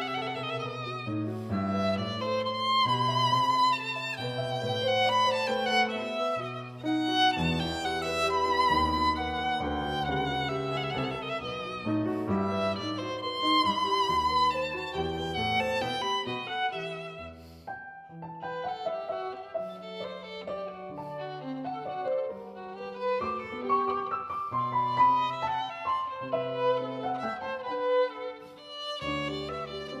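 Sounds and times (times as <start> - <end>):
violin melody background music: 0.0 - 30.0.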